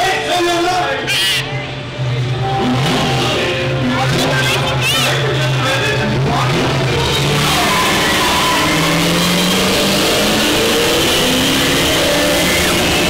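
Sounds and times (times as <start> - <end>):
ride vehicle noise: 0.0 - 13.0.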